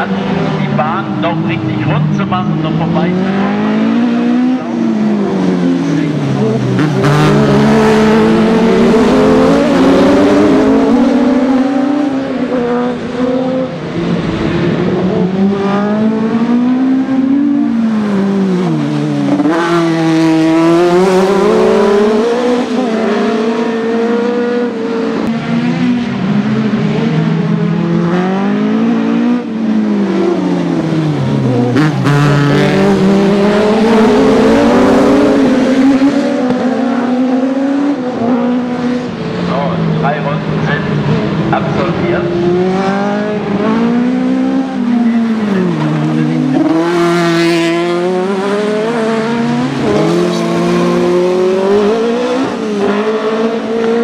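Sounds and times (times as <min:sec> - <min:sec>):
buggy engines revving hard: 0:00.0 - 0:54.0.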